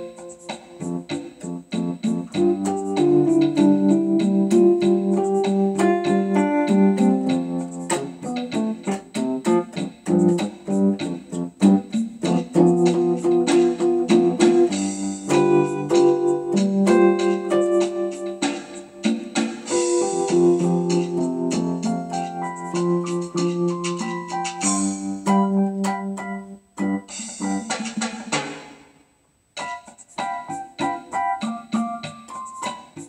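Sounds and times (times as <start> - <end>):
piano music: 0.0 - 28.0, 29.6 - 33.0.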